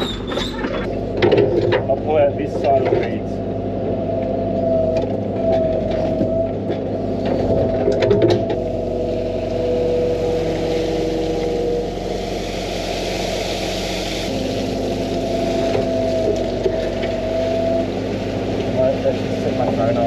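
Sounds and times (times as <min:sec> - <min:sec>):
excavator diesel engine running: 0:00.0 - 0:20.0
hydraulic whine: 0:00.0 - 0:20.0.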